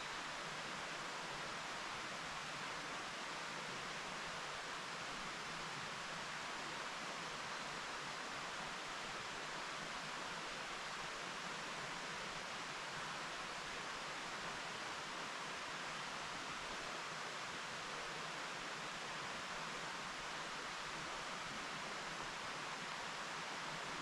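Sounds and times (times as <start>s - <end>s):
stream flowing over rocks: 0.0s - 24.0s.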